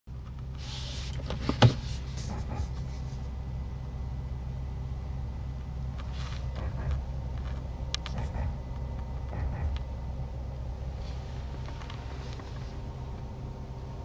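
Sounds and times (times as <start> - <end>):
car cabin hum: 0.1 - 14.0.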